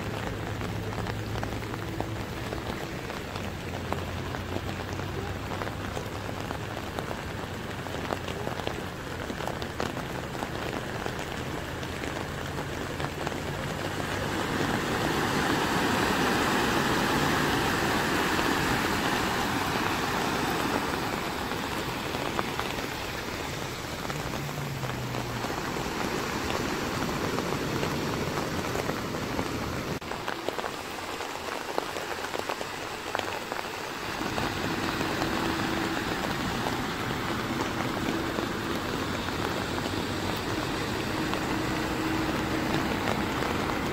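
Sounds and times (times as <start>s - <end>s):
cars driving through water: 0.0s - 43.9s
heavy rain pouring: 0.0s - 43.9s
low engine hum: 0.0s - 43.9s.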